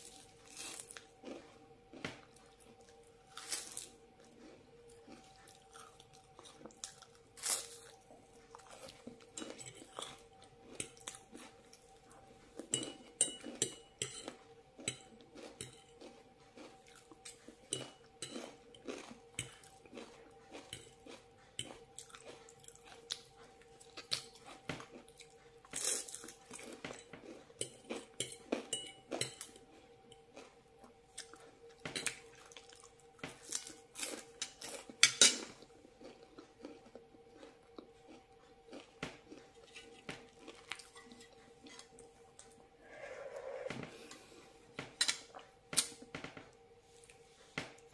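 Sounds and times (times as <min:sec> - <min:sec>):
crunching and chewing: 0:00.0 - 0:47.9
faint steady hum: 0:00.0 - 0:47.9.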